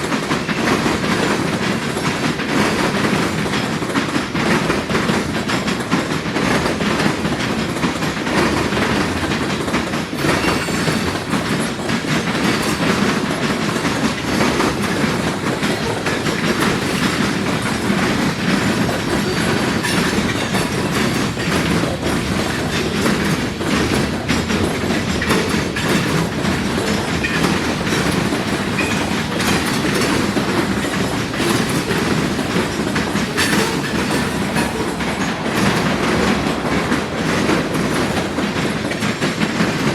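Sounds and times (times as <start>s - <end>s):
train wheels clattering over crossing: 0.0s - 39.9s.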